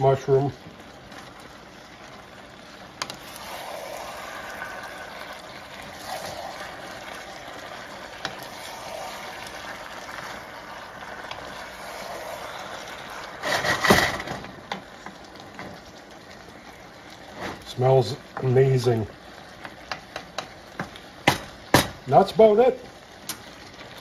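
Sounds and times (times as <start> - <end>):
stir fry sizzling in a pan: 0.0 - 24.0.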